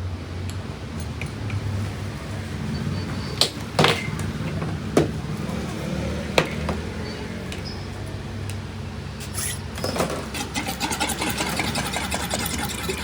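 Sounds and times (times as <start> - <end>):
engine humming: 0.0 - 10.8.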